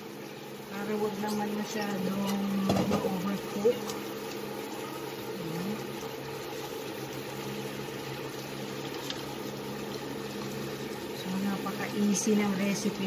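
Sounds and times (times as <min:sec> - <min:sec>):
low steady hum: 0:00.0 - 0:13.0
shrimp sizzling in a pan: 0:00.0 - 0:13.0.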